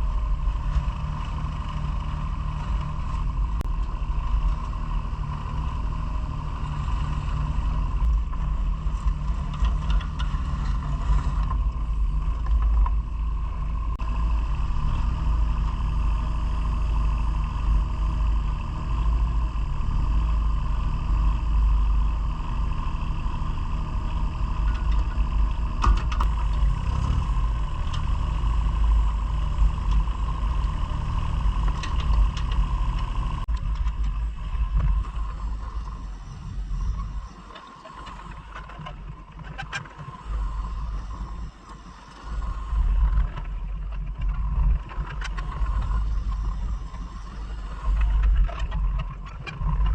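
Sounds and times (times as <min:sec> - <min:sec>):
farm machine engine running: 0:00.0 - 0:49.9.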